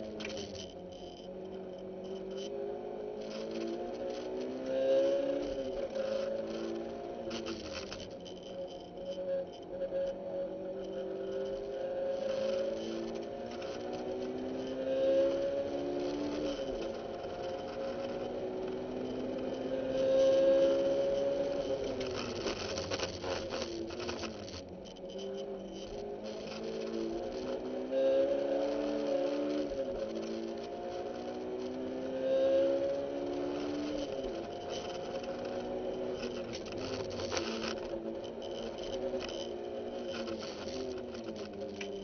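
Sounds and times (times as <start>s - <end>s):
car engine at full throttle: 0.0s - 42.0s.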